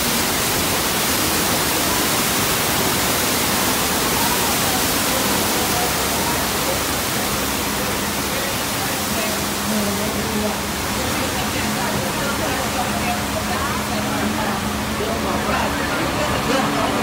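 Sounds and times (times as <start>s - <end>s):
torrent of water rushing: 0.0s - 17.0s.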